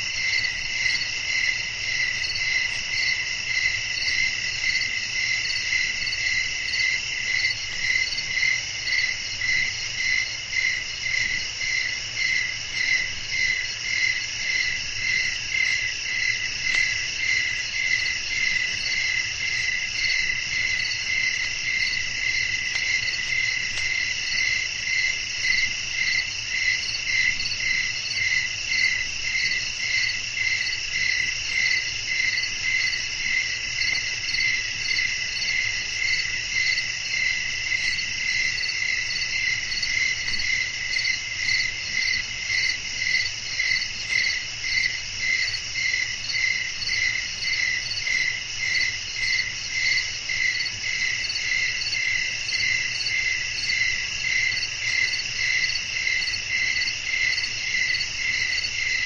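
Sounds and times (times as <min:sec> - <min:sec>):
crickets trilling: 0:00.0 - 0:59.0
pulsing cricket chirp: 0:00.0 - 0:59.0.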